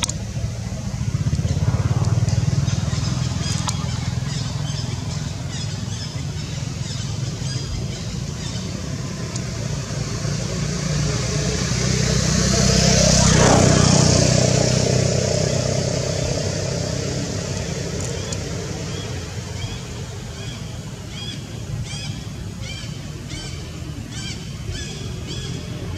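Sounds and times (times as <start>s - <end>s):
vehicle engine humming: 0.0s - 25.9s.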